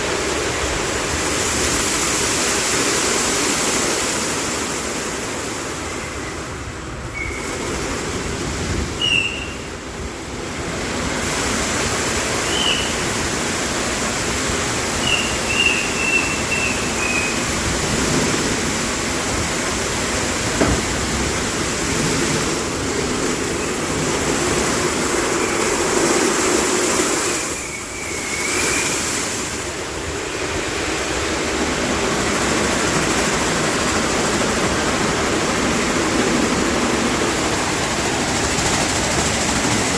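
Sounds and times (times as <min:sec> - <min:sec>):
car wash spraying water: 0:00.0 - 0:39.9.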